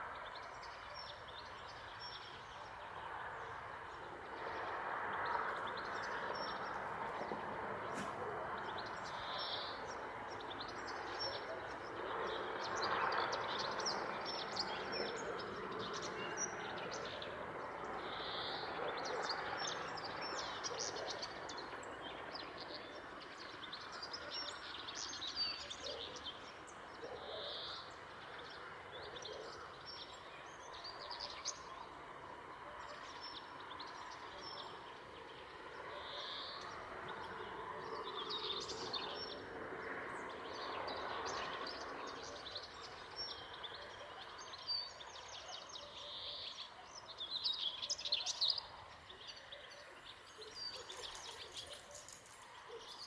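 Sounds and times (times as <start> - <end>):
songbirds chirping and singing: 0.0 - 53.0.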